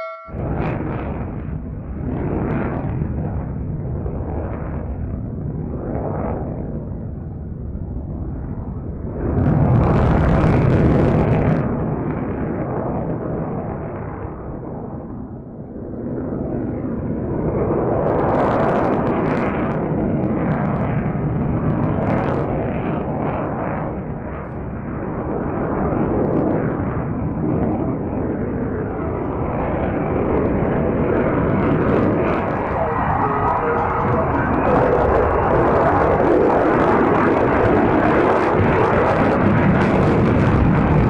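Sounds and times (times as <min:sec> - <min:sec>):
jet engine rumbling overhead: 0:00.0 - 0:41.0.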